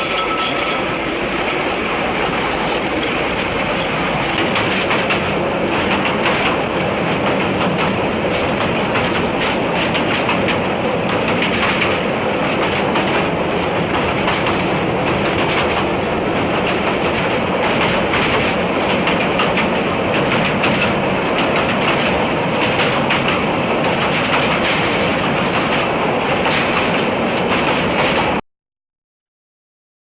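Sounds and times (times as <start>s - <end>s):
train rumbling along track: 0.0s - 28.4s
wheels clicking over rail joints: 0.0s - 28.4s.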